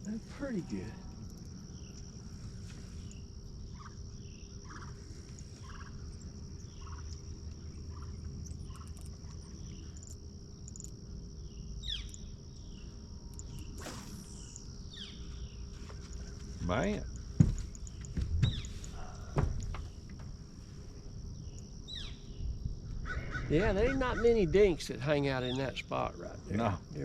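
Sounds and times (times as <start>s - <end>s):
crickets and insects trilling: 0.0s - 27.0s.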